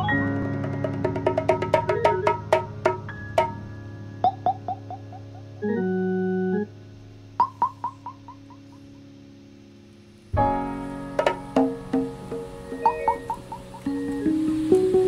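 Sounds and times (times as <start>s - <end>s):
experimental synthesizer music: 0.0s - 9.3s, 10.3s - 15.0s.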